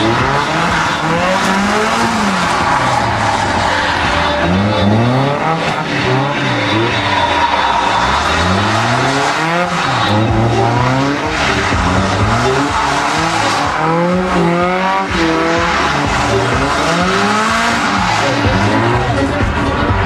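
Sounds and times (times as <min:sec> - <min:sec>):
sports car engine revving: 0:00.0 - 0:20.0
tyres squealing: 0:00.0 - 0:20.0.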